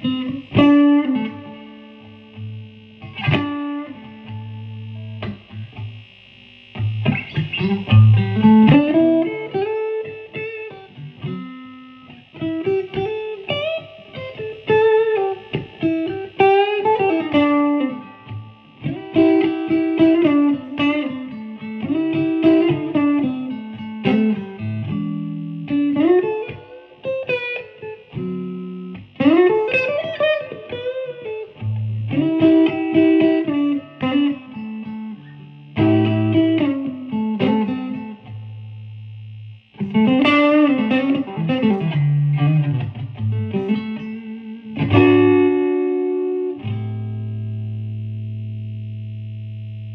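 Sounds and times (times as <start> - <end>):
electric guitar playing: 0.0 - 49.9.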